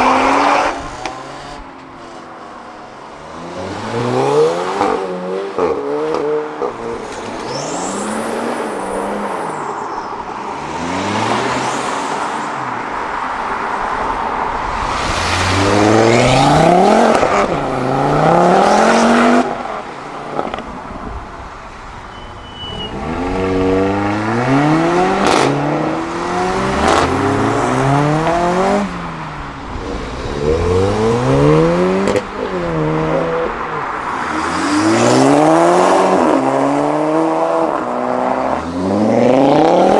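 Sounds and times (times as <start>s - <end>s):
sports cars accelerating hard: 0.0s - 21.4s, 22.5s - 39.9s
cars passing: 0.0s - 39.9s.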